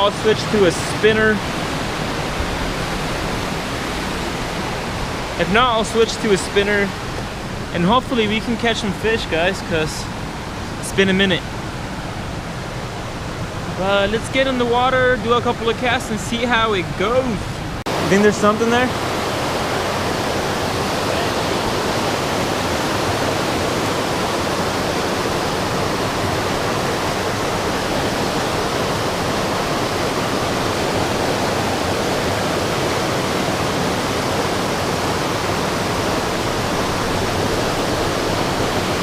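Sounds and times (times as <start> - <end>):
river water rushing: 0.0 - 39.0.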